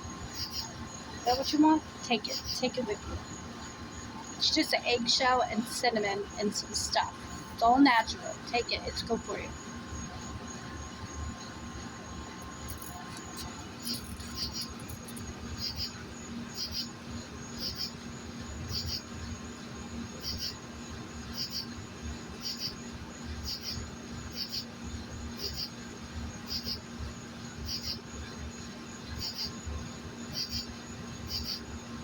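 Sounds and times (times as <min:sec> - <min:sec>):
insect chirping: 0:00.0 - 0:32.0.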